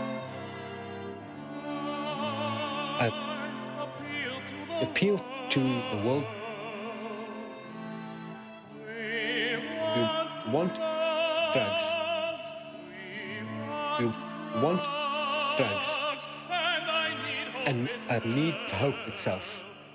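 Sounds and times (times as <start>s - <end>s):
operatic singing: 0.0s - 19.9s.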